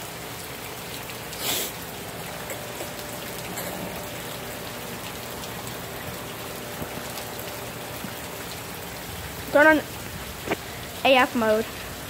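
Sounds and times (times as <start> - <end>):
heavy rain falling and trickling: 0.0 - 12.0.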